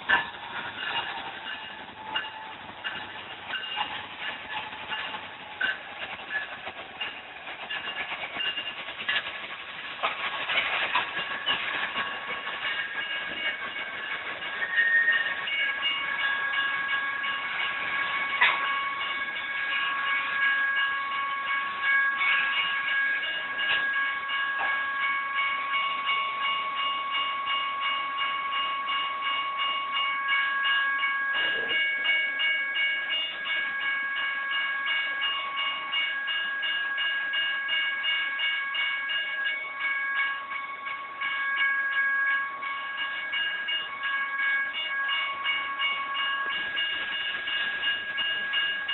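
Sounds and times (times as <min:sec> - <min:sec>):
train wheels rumbling and clattering: 0:00.0 - 0:48.9.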